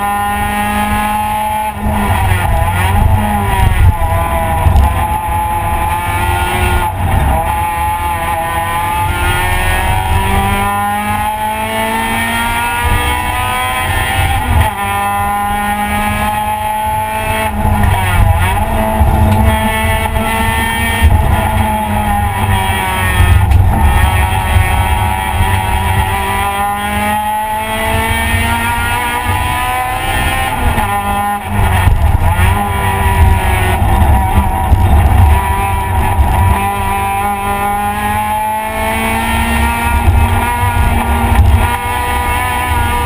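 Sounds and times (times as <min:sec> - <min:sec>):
race car engine at full throttle: 0:00.0 - 0:43.0
road and wind rumble: 0:00.0 - 0:43.0.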